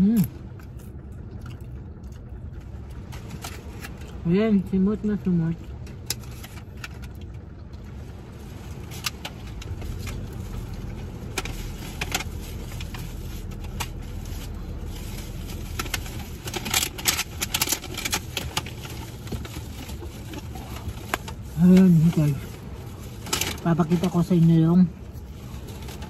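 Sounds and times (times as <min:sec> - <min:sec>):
low car cabin rumble: 0:00.0 - 0:26.0.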